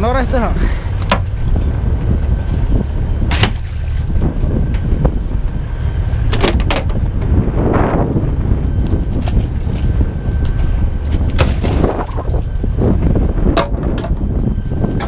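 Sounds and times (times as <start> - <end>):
low boat rumble: 0.0 - 15.0.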